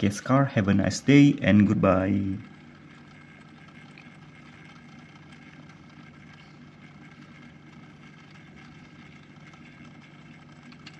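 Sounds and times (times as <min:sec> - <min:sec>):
small motor humming: 0:00.0 - 0:10.9.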